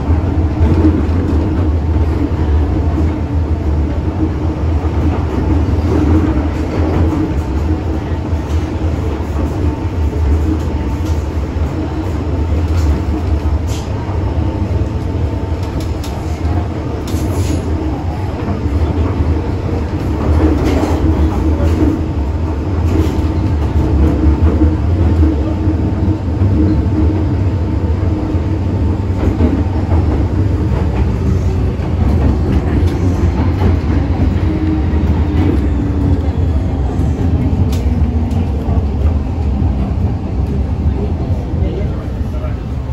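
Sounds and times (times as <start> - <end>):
metro train rumbling on track: 0.0 - 42.9.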